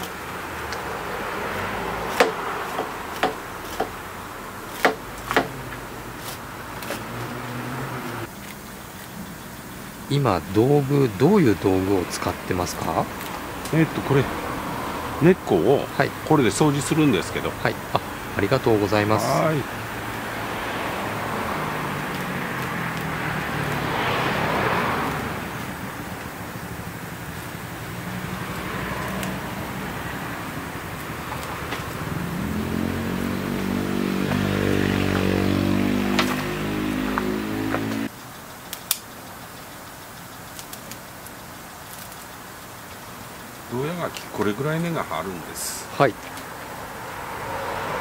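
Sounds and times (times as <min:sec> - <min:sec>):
motor vehicle passing: 0:00.0 - 0:09.0, 0:09.6 - 0:38.2, 0:43.2 - 0:48.0.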